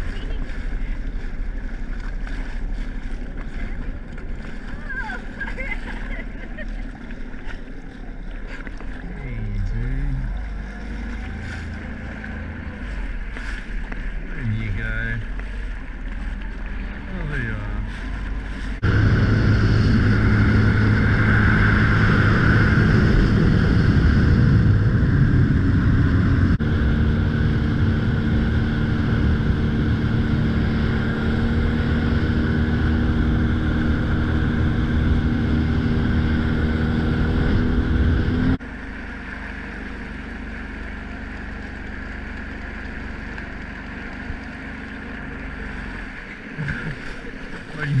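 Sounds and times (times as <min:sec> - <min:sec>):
boat motor running: 0:00.0 - 0:48.0
water noise: 0:00.0 - 0:48.0
wind: 0:00.0 - 0:48.0.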